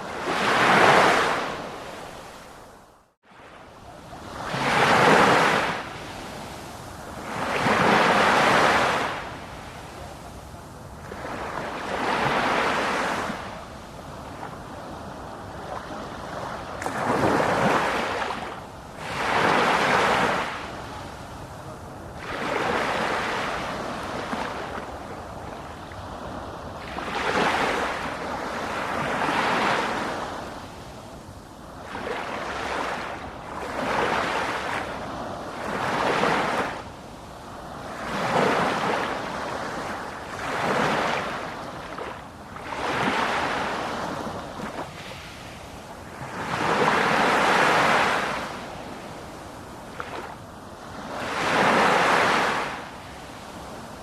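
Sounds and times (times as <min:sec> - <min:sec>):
ocean waves breaking: 0:00.0 - 0:31.1, 0:31.7 - 0:36.9, 0:37.6 - 0:54.0.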